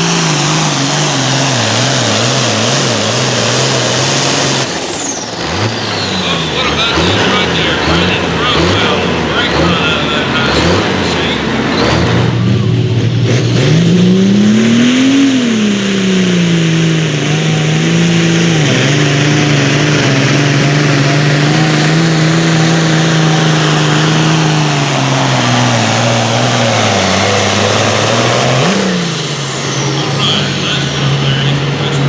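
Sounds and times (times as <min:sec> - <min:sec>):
engine running hard under load: 0:00.0 - 0:32.0.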